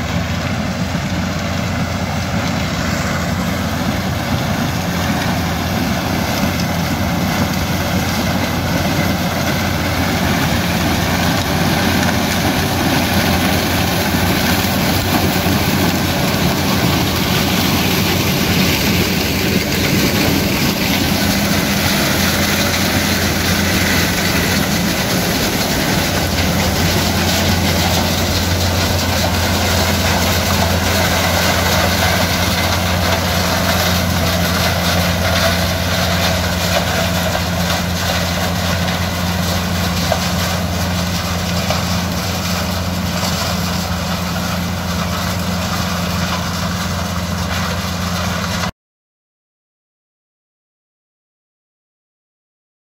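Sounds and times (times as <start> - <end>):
diesel engine running: 0.0 - 48.7.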